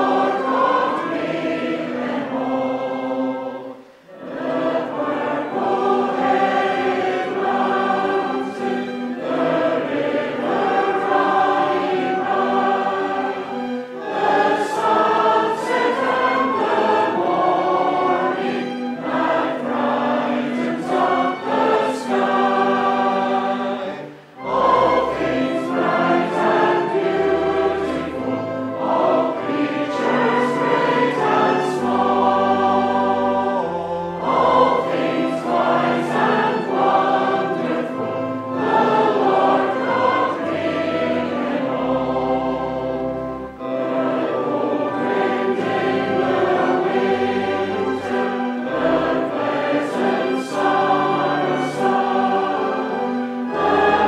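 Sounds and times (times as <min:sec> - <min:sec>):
choir singing a hymn: 0:00.0 - 0:54.0
instrumental accompaniment: 0:00.0 - 0:54.0.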